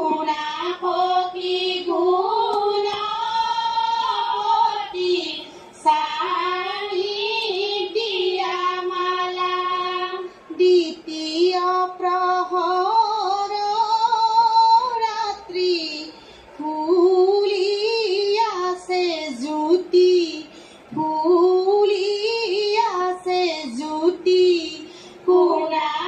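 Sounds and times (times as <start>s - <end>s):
women singing through television speaker: 0.0s - 26.0s.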